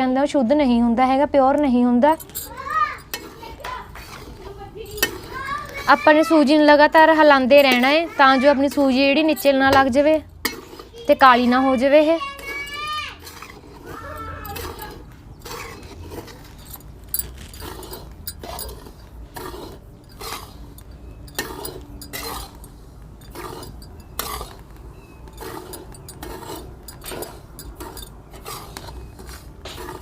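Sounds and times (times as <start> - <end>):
metal scraper scraping a pan: 2.2 - 30.0.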